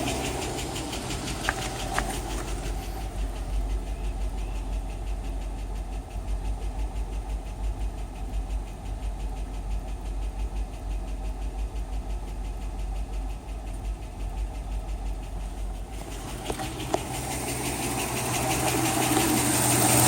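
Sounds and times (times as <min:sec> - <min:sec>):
engine idling: 0:00.0 - 0:20.0
fast even engine ticking: 0:00.0 - 0:20.0.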